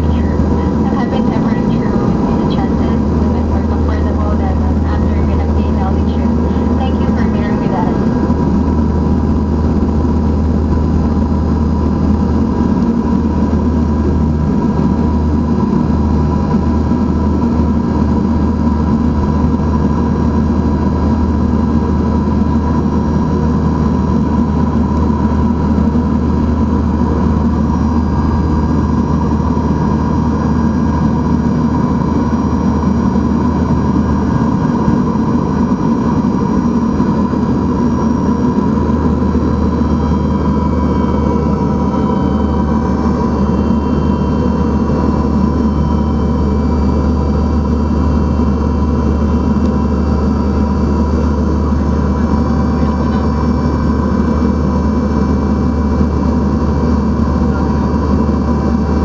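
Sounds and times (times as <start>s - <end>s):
turboprop engines running: 0.0s - 59.0s.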